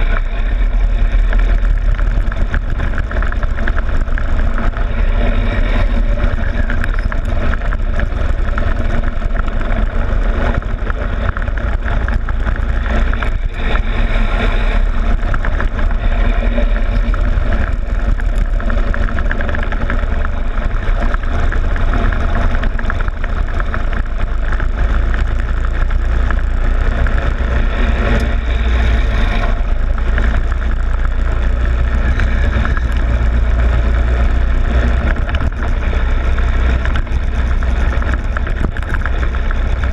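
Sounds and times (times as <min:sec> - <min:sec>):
go-kart engine running: 0:00.0 - 0:39.9
low rumble of vibration and wind: 0:00.0 - 0:39.9.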